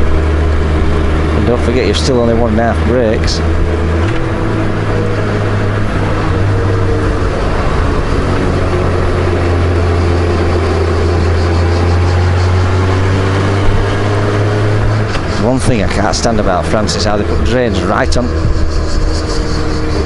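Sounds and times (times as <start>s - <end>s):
motorcycle engine running: 0.0s - 20.0s
road noise: 0.0s - 20.0s
wind noise: 0.0s - 20.0s.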